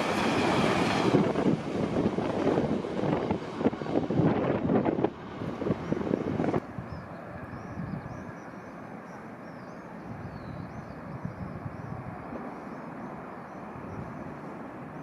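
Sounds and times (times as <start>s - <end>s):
train passing with clattering rush: 0.0s - 10.2s, 11.9s - 15.0s.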